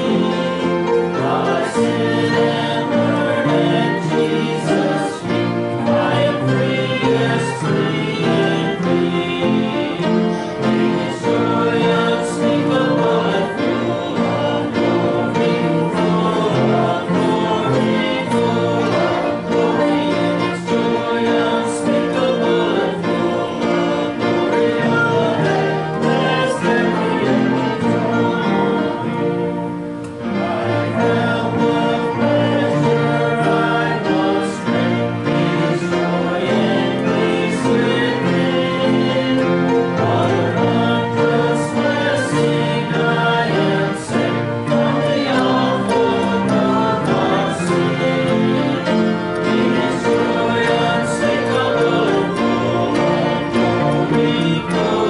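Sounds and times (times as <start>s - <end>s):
congregation singing a hymn: 0.0s - 55.0s
instrumental accompaniment: 0.0s - 55.0s.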